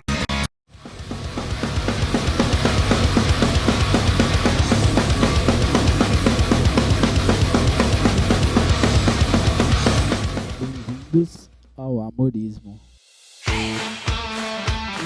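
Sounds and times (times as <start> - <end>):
drum kit pounding: 0.7 - 11.8, 12.8 - 15.0
driving bass line: 0.7 - 15.0.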